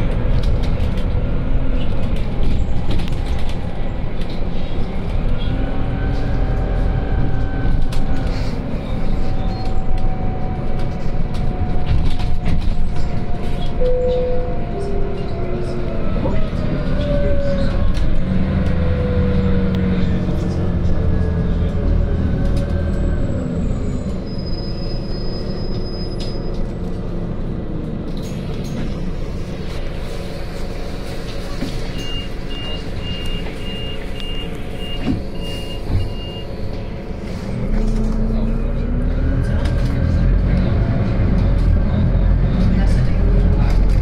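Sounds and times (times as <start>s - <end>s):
bus engine running: 0.0s - 44.0s.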